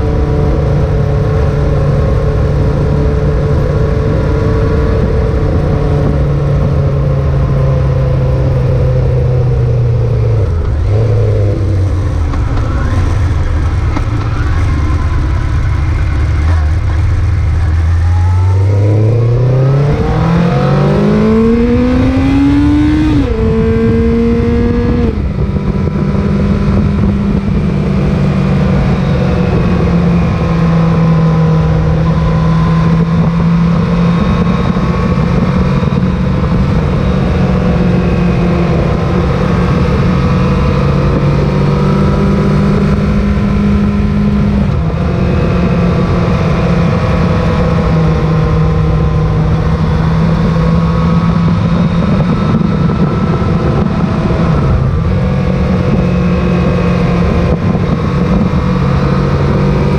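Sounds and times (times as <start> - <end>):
motorcycle engine accelerating: 0.0 - 59.9
rush of wind: 0.0 - 59.9.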